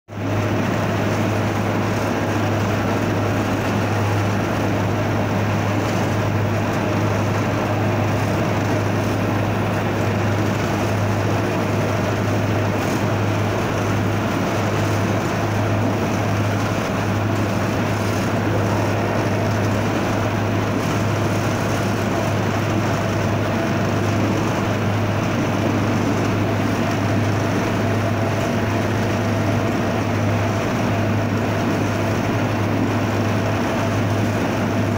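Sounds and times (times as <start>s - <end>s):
locomotive engine hum: 0.1s - 34.9s.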